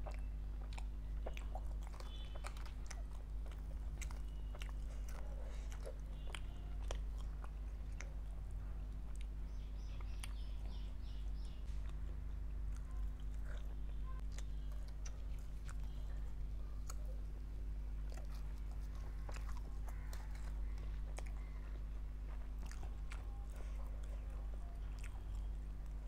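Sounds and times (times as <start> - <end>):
chewing and biting bread: 0.0 - 26.0
steady low hum: 0.0 - 26.0.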